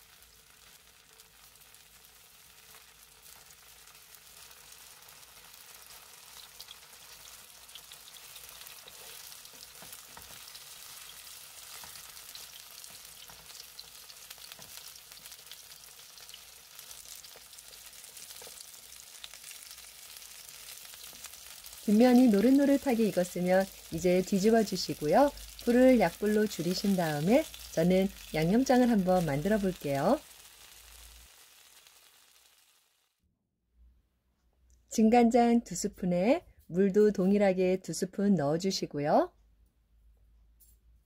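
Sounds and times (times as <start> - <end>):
tofu sizzling in oil: 0.0 - 33.2.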